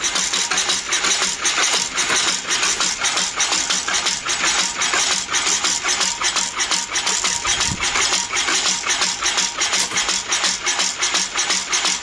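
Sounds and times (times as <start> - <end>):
stationary engine running: 0.0 - 12.0.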